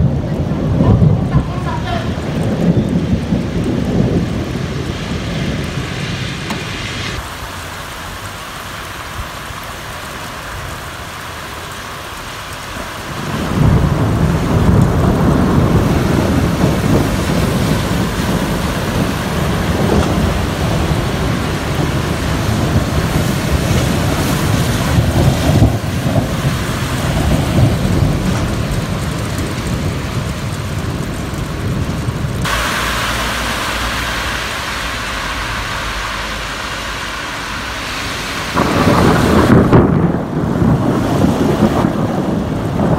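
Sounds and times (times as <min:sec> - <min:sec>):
steady rain: 0:00.0 - 0:42.9
thunder rumbling: 0:00.0 - 0:42.9.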